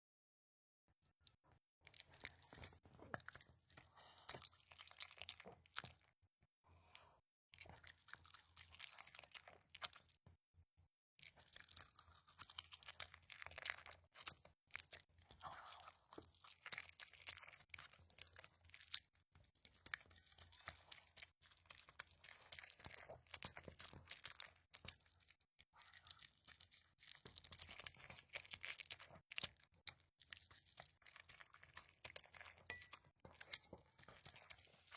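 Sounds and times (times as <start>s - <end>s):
chewing crunchy food: 1.2s - 10.4s, 11.2s - 34.9s.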